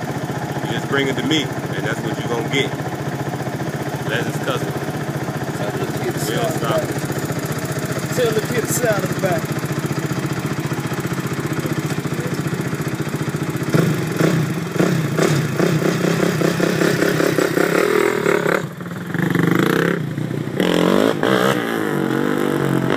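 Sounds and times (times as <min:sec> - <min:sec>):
car engine revving: 0:00.0 - 0:02.8, 0:03.6 - 0:10.2, 0:13.5 - 0:22.9
car engine idling: 0:00.0 - 0:22.9.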